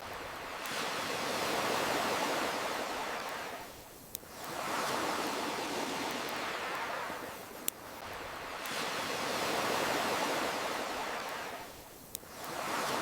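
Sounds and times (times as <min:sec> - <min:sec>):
campfire crackle: 0:00.0 - 0:13.0
ocean waves washing ashore: 0:00.0 - 0:13.0.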